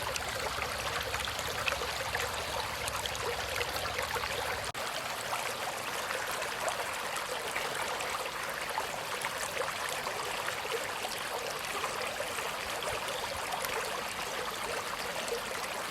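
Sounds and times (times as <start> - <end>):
brook babbling over rocks: 0.0 - 15.9.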